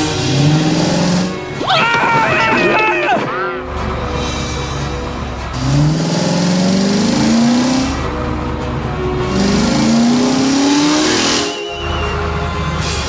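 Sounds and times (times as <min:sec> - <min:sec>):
car engine revving: 0:00.0 - 0:01.7, 0:03.6 - 0:12.9
background music: 0:00.0 - 0:13.0.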